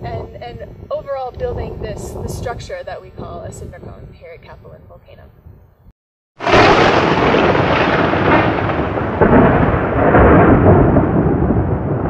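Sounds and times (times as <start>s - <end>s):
rolling thunder rumble: 0.0s - 5.2s, 6.4s - 12.0s.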